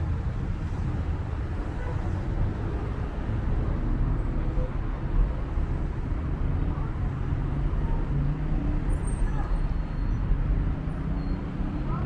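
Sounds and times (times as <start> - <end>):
faint voices of passers-by: 0.0 - 12.0
road traffic rumble: 0.0 - 12.0.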